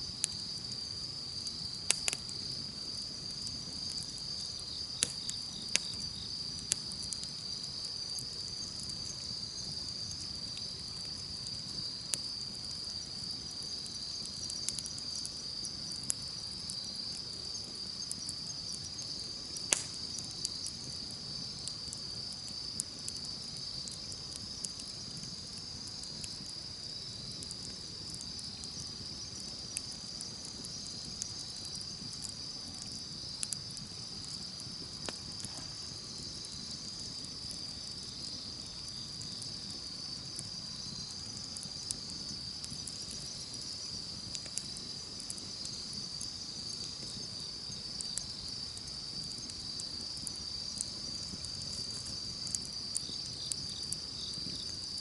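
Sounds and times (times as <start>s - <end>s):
campfire crackling and popping: 0.0s - 55.0s
insects chorus: 0.0s - 55.0s.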